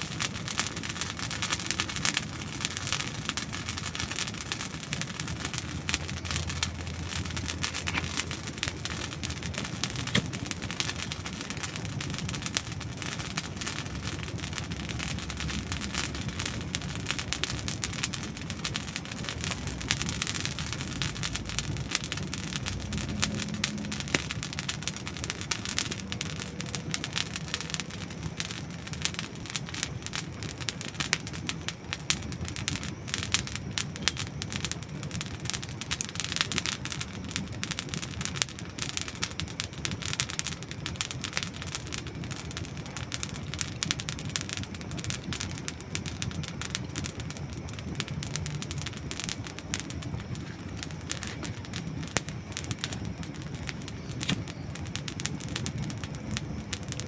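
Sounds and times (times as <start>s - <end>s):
campfire crackling and popping: 0.0s - 57.0s
hiss of flames: 0.0s - 57.0s.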